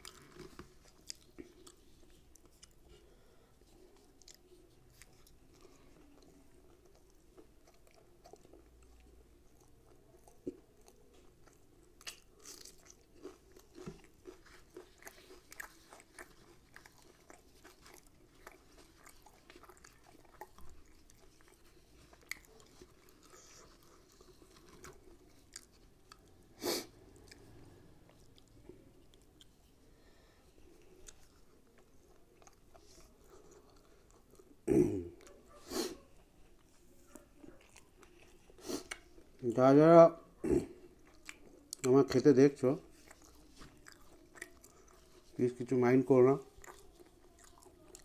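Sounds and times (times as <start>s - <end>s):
quiet chewing: 0.0s - 48.0s.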